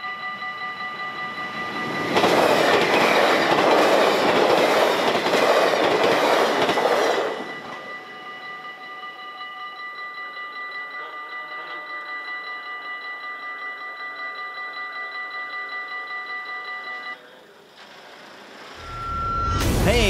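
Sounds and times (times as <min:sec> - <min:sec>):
crossing warning bell ringing: 0:00.0 - 0:17.6, 0:18.8 - 0:20.0
train wheel and rail noise: 0:00.0 - 0:20.0.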